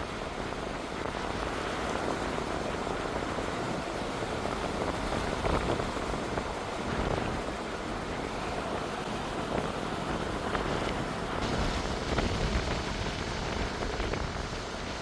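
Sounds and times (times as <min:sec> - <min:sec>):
ocean surf washing in: 0:00.0 - 0:15.0
wind on the microphone: 0:00.0 - 0:15.0.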